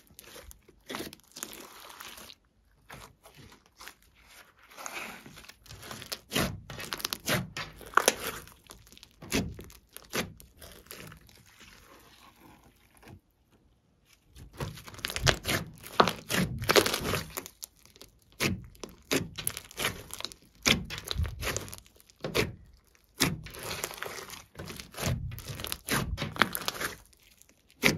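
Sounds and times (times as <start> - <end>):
slime crackling and squishing: 0.0 - 27.9.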